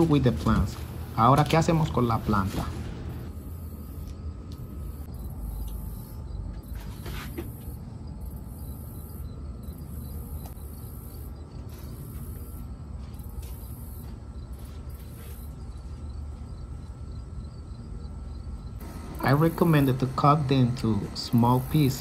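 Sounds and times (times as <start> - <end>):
insects chirping shrill trill: 3.3 - 22.0.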